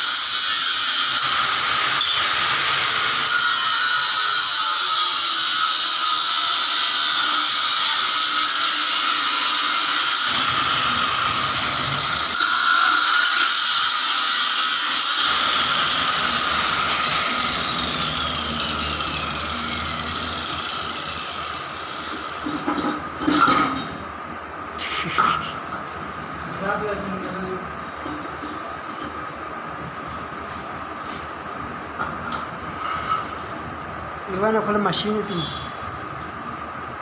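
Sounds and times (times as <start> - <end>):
machine running with hiss and whine: 0.0 - 37.0.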